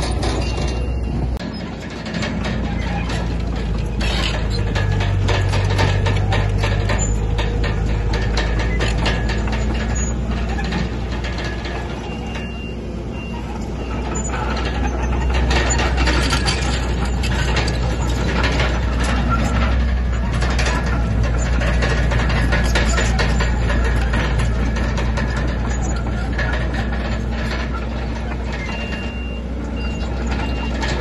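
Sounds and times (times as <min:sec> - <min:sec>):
bulldozer diesel engine rumble: 0:00.0 - 0:31.0
metallic clanks from tracks: 0:00.0 - 0:31.0.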